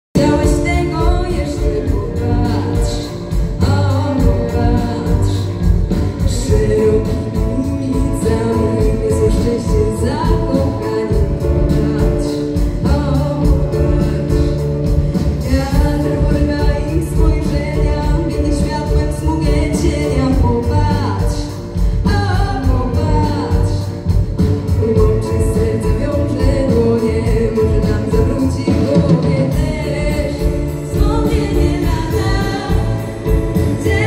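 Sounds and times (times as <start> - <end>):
drum kit steady beat: 0.1 - 34.0
grand piano: 0.1 - 34.0.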